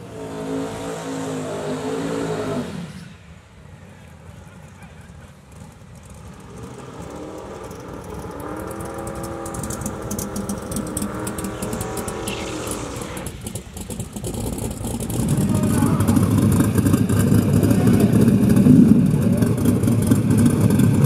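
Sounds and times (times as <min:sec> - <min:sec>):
drag racing car engine running: 0:00.0 - 0:21.0.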